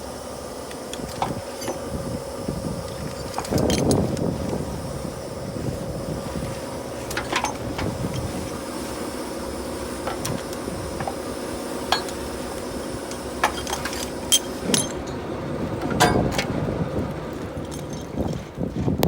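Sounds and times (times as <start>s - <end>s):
running engine hum: 0.0s - 19.0s.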